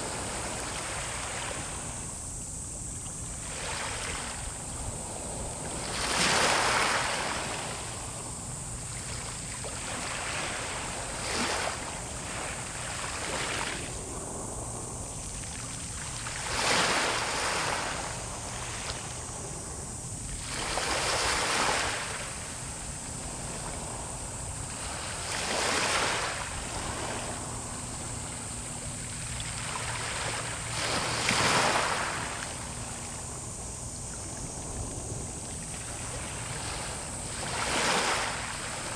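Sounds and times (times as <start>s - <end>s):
sea waves breaking: 3.4s - 8.1s, 8.9s - 33.4s, 34.2s - 38.9s.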